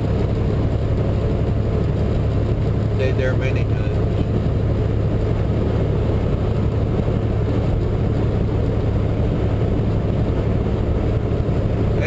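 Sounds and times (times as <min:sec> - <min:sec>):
diesel engine hum: 0:00.0 - 0:12.0
road and tyre noise: 0:00.0 - 0:12.0.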